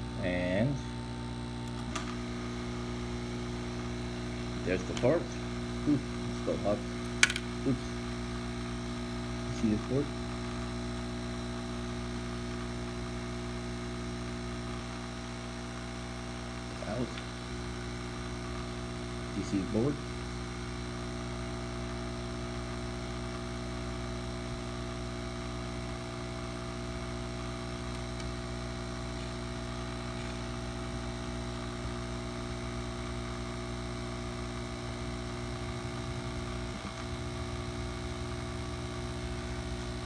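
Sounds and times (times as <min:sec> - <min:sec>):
small fan motor humming: 0:00.0 - 0:40.0.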